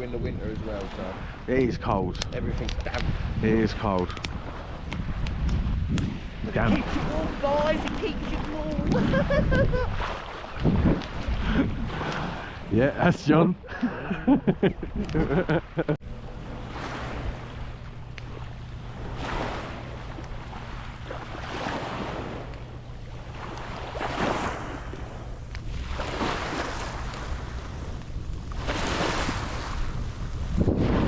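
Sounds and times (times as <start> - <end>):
wind rumble on microphone: 0.0 - 13.1, 14.0 - 31.0
small waves washing onto beach: 0.0 - 31.0.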